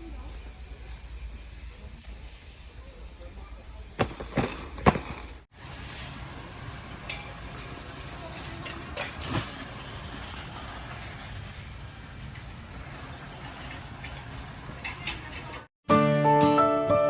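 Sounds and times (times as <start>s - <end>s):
steady background noise: 0.0s - 15.7s.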